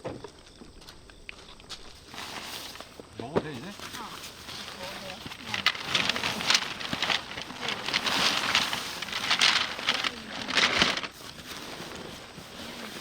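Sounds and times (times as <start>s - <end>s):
rustling and crinkling material: 1.4s - 13.0s.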